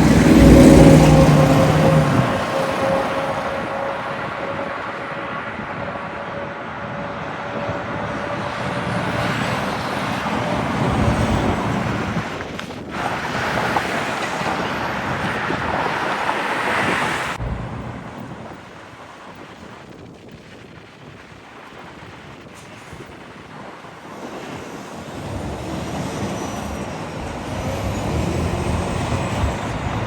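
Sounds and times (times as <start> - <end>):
quieter traffic noise: 0.0 - 20.9, 23.2 - 30.0
trucks passing on road: 0.0 - 30.0.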